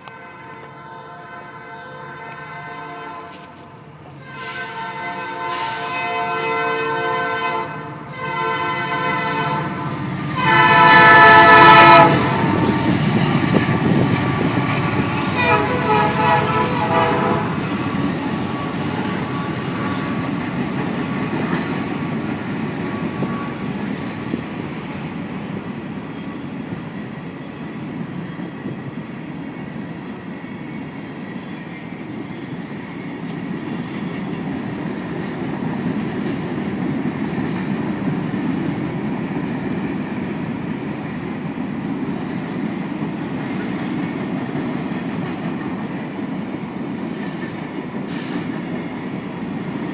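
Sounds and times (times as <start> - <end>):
freight train wheels rumbling on rails: 0.0 - 49.9.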